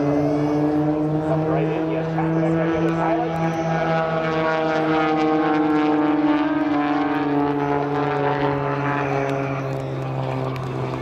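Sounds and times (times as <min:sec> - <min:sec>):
propeller planes flying past: 0:00.0 - 0:11.0.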